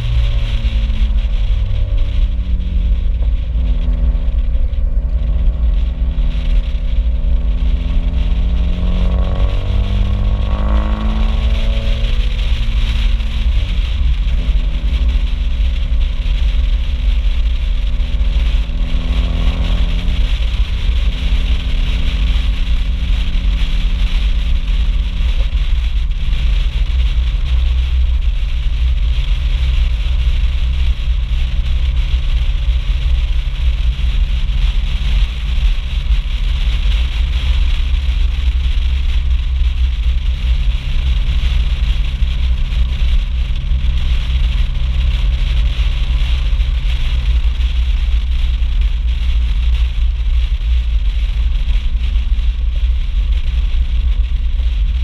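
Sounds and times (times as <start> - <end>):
car exhaust while driving: 0.0 - 55.0
road noise: 0.0 - 55.0
wind rumble on microphone: 0.0 - 55.0.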